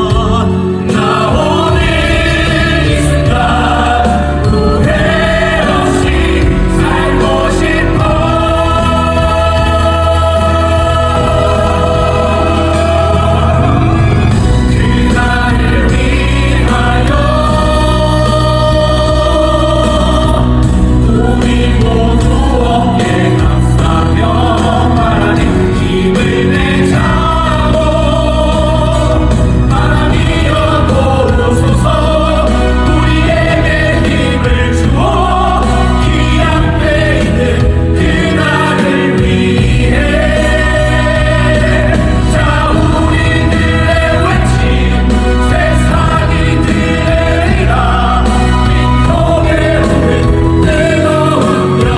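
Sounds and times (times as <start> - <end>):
choir singing slow song: 0.0 - 51.9
instrumental accompaniment with heavy bass: 0.0 - 51.9.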